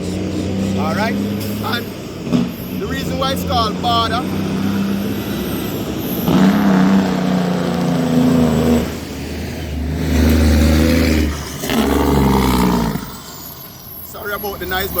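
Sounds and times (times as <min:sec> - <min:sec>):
truck diesel engine labouring: 0:00.0 - 0:15.0.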